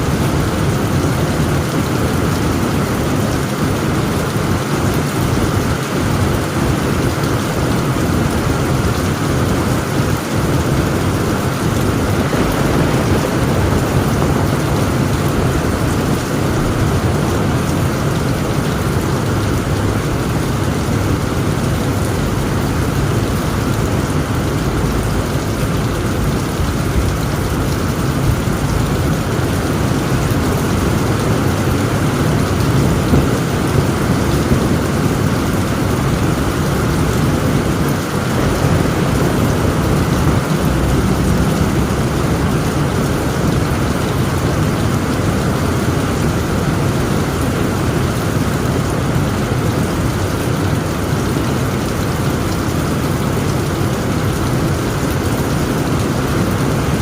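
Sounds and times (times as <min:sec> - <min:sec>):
low rumble of thunder: 0:00.0 - 0:53.2
heavy rain on tent roof: 0:00.0 - 0:57.0.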